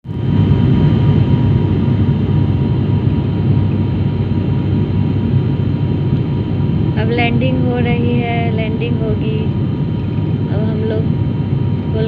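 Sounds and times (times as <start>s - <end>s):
faint steady whine: 0.0s - 12.0s
jet engine and airflow rumble: 0.0s - 12.0s.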